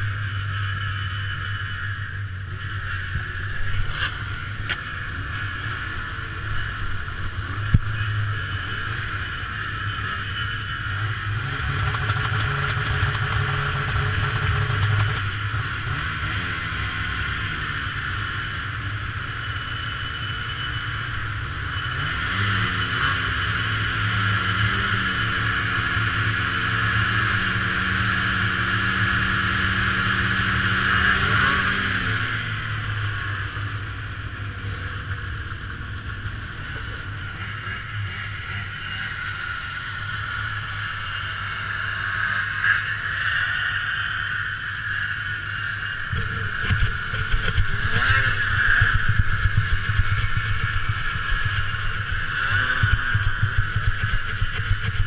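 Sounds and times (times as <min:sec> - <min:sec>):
snowmobile engines idling and revving: 0:00.0 - 0:55.0.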